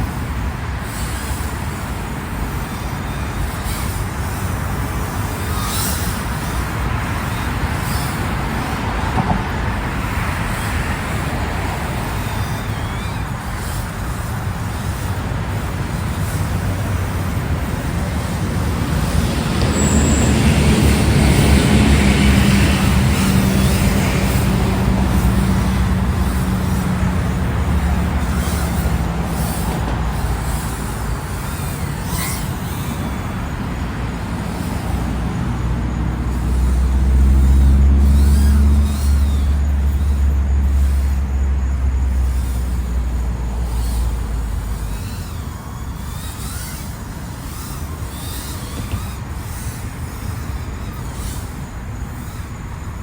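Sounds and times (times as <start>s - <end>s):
motor vehicle rumbling: 0.0s - 53.0s.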